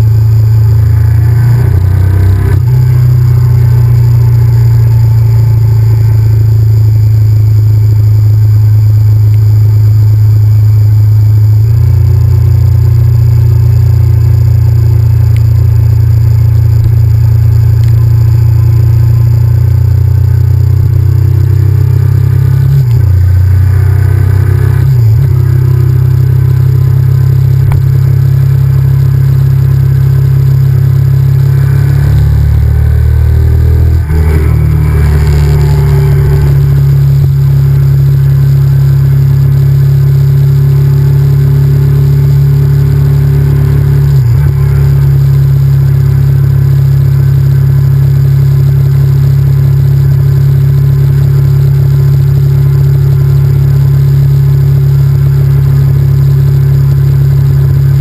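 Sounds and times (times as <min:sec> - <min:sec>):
motorcycle engine running loud: 0:00.0 - 0:58.0.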